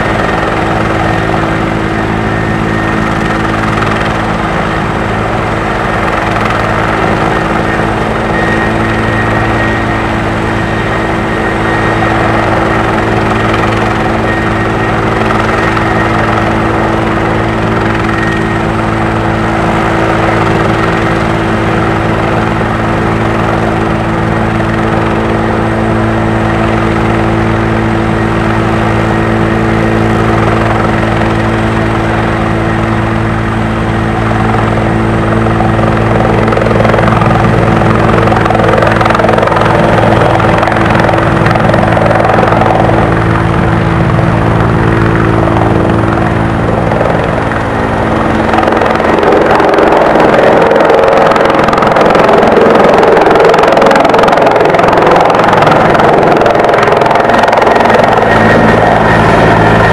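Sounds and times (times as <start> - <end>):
helicopter engines and rotor running: 0.0 - 59.9.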